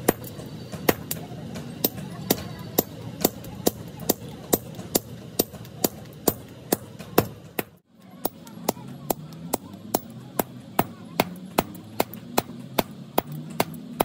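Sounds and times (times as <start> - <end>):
sledgehammers striking hot steel: 0.0 - 14.0.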